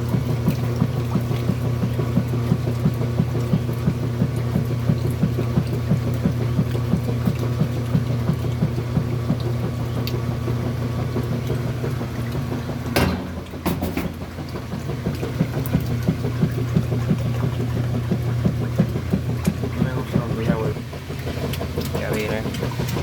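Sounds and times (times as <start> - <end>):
washing machine motor pulsing hum: 0.0 - 23.0.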